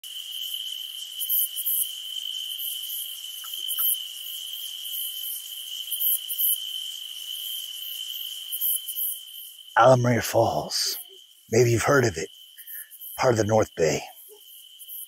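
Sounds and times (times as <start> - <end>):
cricket trill: 0.0 - 15.0
high buzzing insect call: 0.0 - 15.0.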